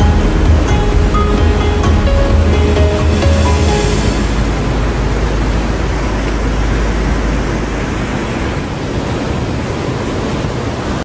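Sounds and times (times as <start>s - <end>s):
deep rumble: 0.0s - 9.2s.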